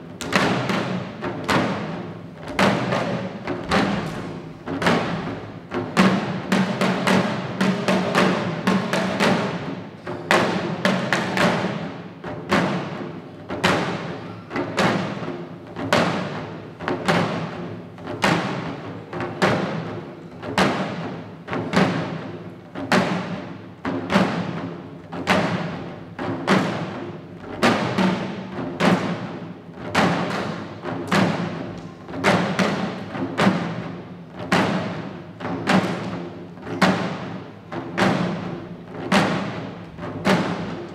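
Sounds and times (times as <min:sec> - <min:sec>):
taiko drums beaten in rhythm: 0:00.0 - 0:40.9.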